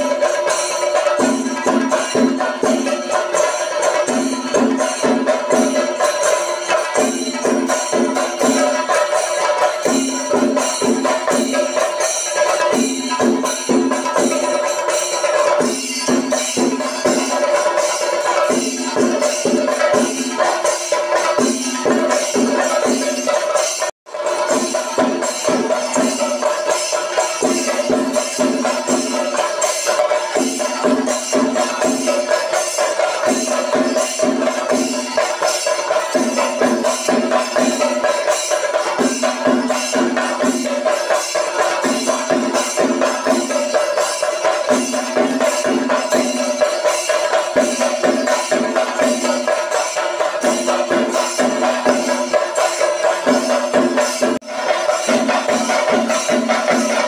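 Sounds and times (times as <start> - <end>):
fast hand percussion: 0.0 - 57.0.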